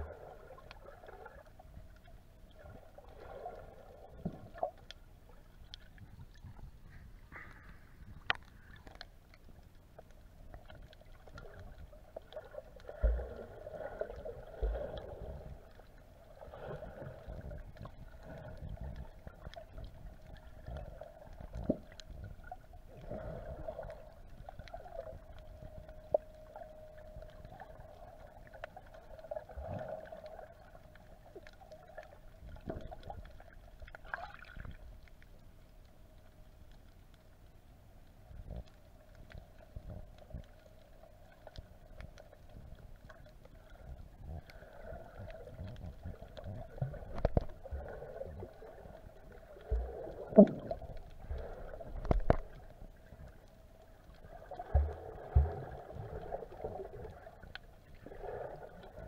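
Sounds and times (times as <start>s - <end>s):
underwater gurgling and sloshing: 0.0s - 59.0s.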